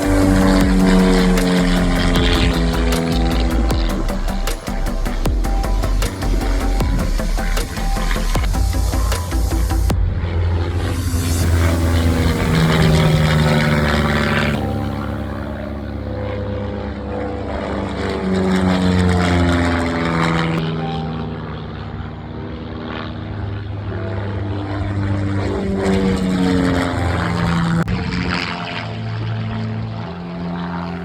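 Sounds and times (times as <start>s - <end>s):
propeller aircraft flying past: 0.0s - 31.0s.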